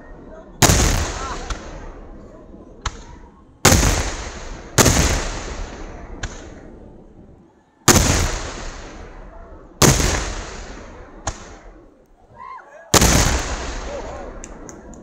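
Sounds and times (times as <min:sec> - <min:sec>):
fireworks booming: 0:00.0 - 0:12.0, 0:12.9 - 0:15.0
firework crack: 0:00.6 - 0:07.2, 0:07.9 - 0:12.2, 0:12.9 - 0:15.0.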